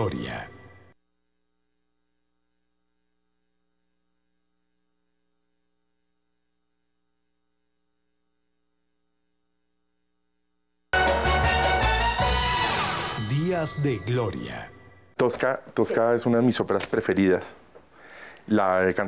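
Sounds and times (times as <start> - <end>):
faint electrical hum: 0.0 - 10.9, 14.3 - 19.0.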